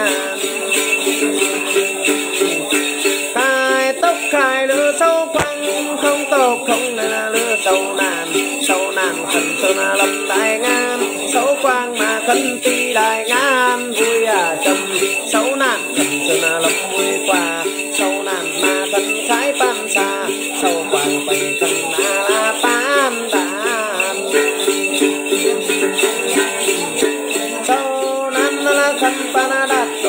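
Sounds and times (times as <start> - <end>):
man singing a chant: 0.0 - 30.0
plucked long-necked lute: 0.0 - 30.0
small bells jingling: 0.0 - 30.0.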